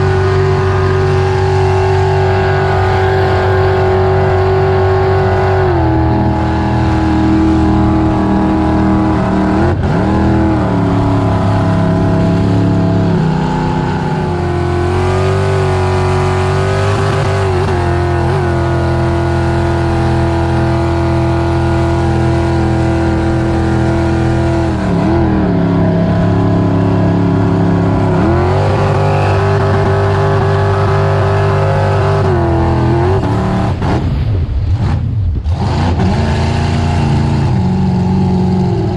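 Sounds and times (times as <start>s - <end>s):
engine running and revving: 0.0s - 38.9s.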